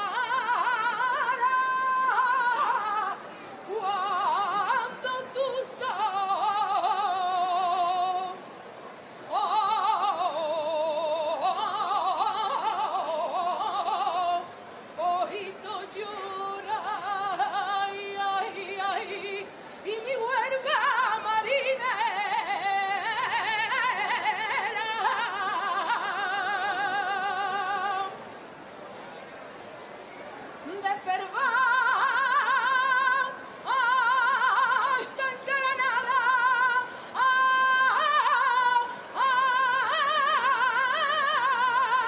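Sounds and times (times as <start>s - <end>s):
woman singing unaccompanied: 0.0s - 8.5s, 9.2s - 28.3s, 30.6s - 42.0s.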